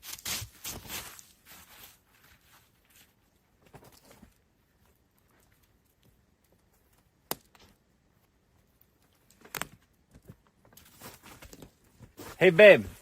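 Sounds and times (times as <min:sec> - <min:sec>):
soft rustling and handling: 0:00.0 - 0:13.0.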